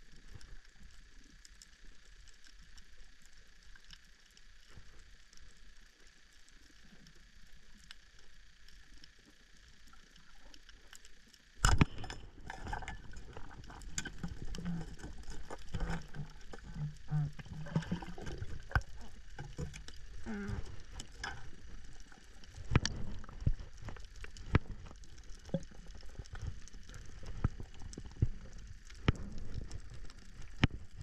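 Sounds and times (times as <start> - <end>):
coral reef clicks: 0.0 - 31.0
rough noise with low rumble: 0.0 - 31.0.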